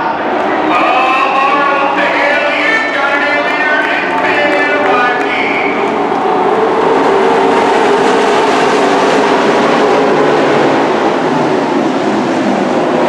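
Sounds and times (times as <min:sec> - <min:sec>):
race truck engines roaring: 0:00.0 - 0:13.0.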